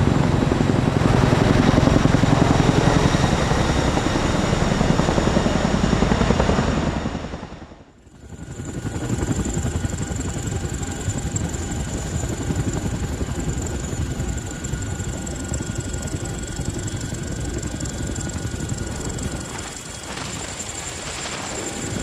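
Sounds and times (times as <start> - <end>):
helicopter rotor noise: 0.0 - 22.0
high turbine whine: 0.0 - 22.0.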